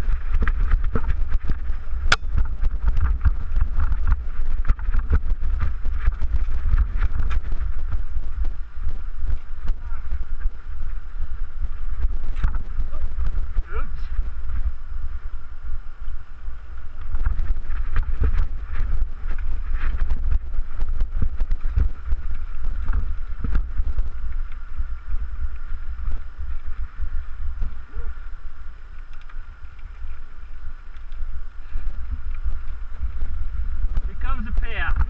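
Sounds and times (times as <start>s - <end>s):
bike rattling over rocks: 0.0s - 13.5s, 14.2s - 35.0s
wind buffeting microphone: 0.0s - 35.0s.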